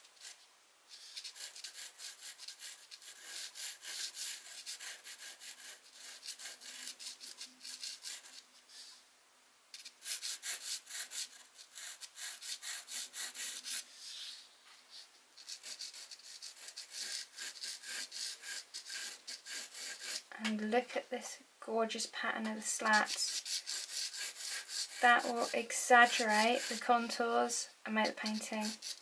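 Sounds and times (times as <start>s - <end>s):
pencil scratching on canvas: 0.0s - 8.9s, 9.8s - 20.3s, 22.0s - 29.0s.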